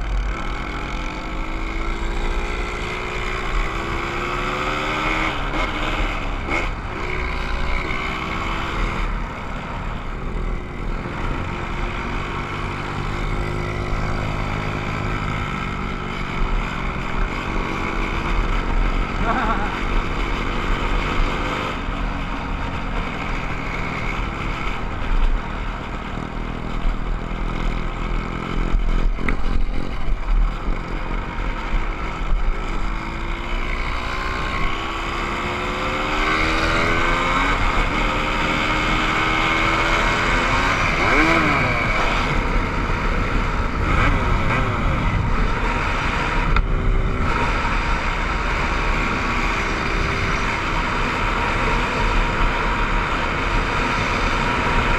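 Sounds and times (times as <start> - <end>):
motorcycle engines running: 0.0 - 54.9.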